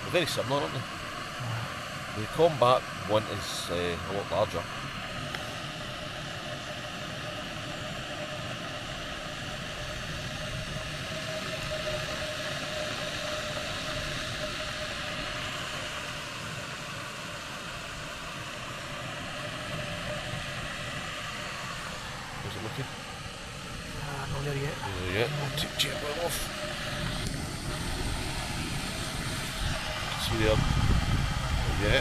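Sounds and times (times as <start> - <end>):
faint thin whine: 0.0 - 32.0
gas stove burner hissing: 0.0 - 32.0.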